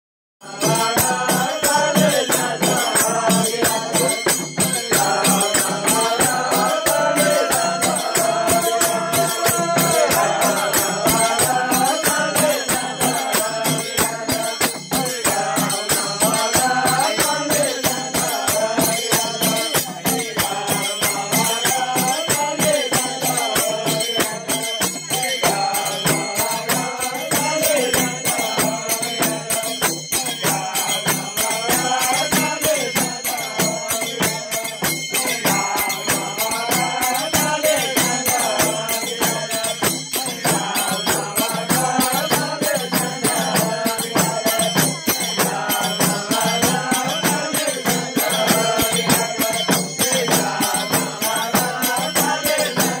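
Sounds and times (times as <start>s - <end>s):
men singing together: 0.4s - 53.0s
small hand cymbals: 0.5s - 53.0s
hand drum beat: 0.6s - 53.0s.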